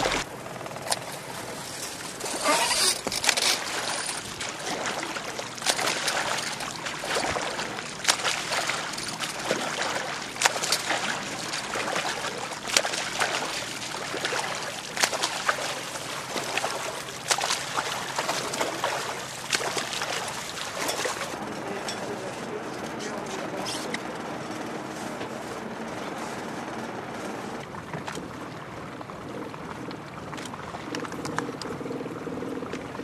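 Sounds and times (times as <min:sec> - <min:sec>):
lapping water: 0:00.0 - 0:00.3, 0:02.2 - 0:33.0
swimmer splashing: 0:00.0 - 0:33.0.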